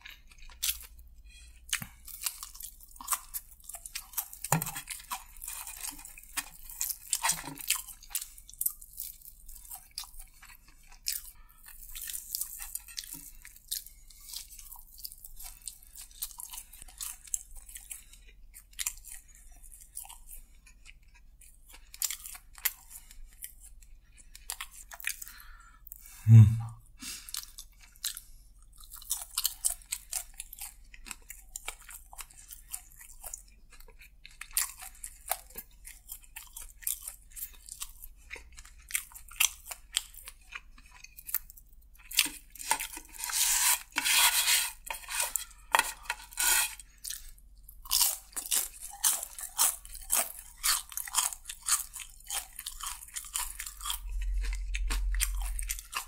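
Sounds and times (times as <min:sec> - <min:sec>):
chewing crispy fried chicken: 0:00.0 - 0:56.0.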